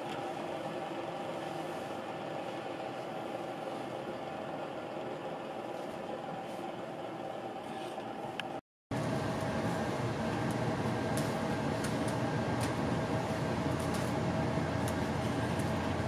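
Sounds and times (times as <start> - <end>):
machine hum and hiss: 0.0 - 16.0
mid-pitched whine: 0.0 - 16.0.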